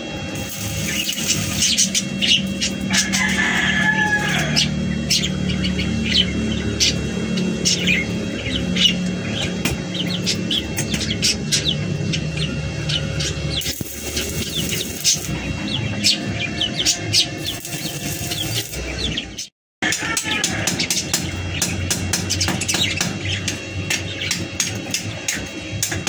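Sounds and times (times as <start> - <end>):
welding arc crackling: 0.0 - 19.5, 20.8 - 26.0
chirping: 0.3 - 25.7.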